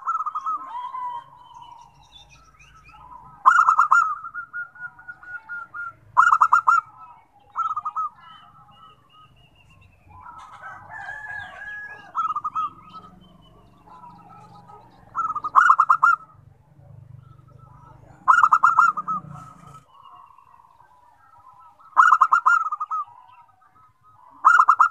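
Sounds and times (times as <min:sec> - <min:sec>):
distant bird calls: 0:00.0 - 0:24.9
dove cooing: 0:00.0 - 0:24.9.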